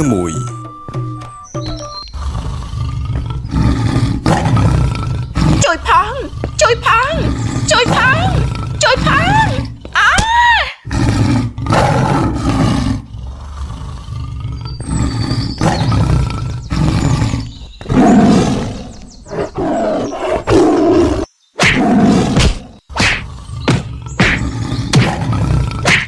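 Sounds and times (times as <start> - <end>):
tiger roaring: 1.9 - 9.9, 10.8 - 25.9.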